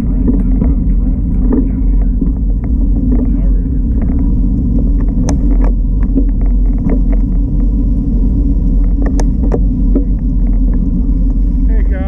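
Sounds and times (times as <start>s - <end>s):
bike rattling and clicking: 0.0s - 12.0s
wind buffeting microphone: 0.0s - 12.0s.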